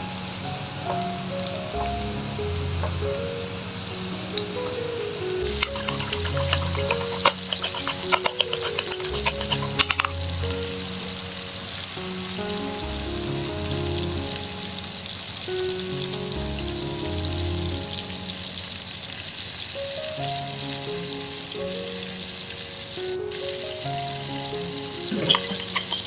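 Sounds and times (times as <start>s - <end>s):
food sizzling in a frying pan: 0.0s - 26.0s
soft background music: 0.0s - 26.0s.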